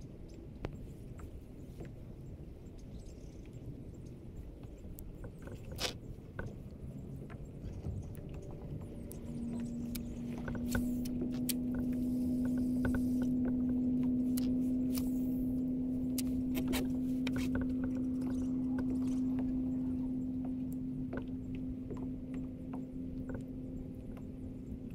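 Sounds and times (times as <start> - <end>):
steady motor hum: 0.0 - 24.9.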